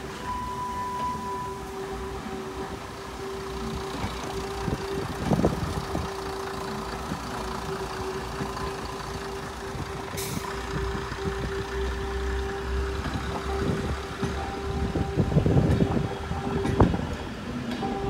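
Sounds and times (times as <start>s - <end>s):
diesel train engine rumble: 0.0s - 18.0s.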